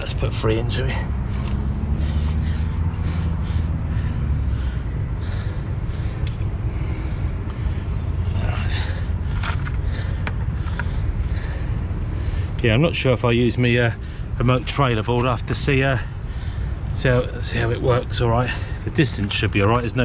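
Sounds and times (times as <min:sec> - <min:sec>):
heavy vehicle engine rumbling: 0:00.0 - 0:20.0.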